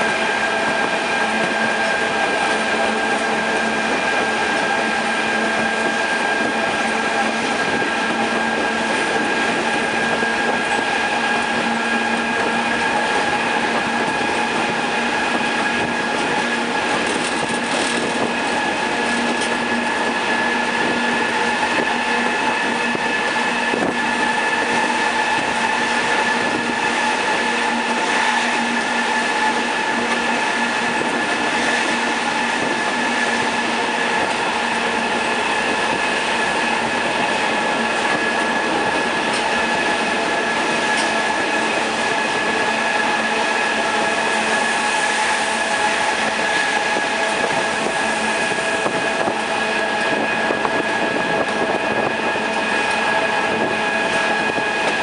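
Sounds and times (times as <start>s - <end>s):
high-pitched wheel squealing: 0.0s - 55.0s
train running on rails: 0.0s - 55.0s.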